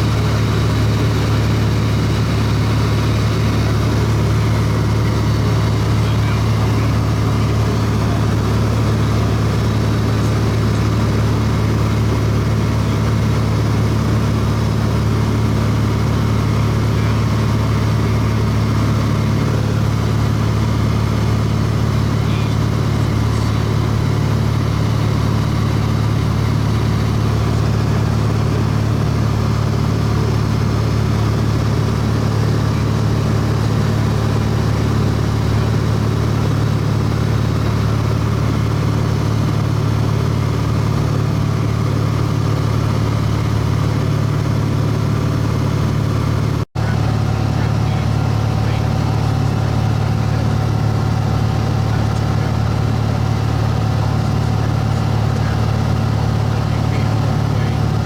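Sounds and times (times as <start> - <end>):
plane engine drone in cabin: 0.0 - 58.0.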